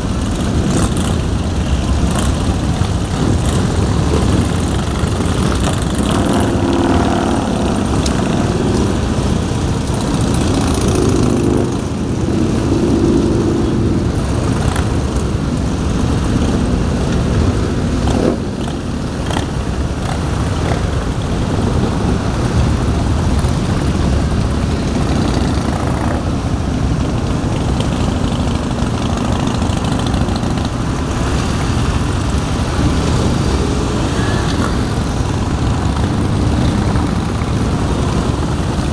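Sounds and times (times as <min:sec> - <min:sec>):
motorcycles riding past: 0:00.0 - 0:38.9.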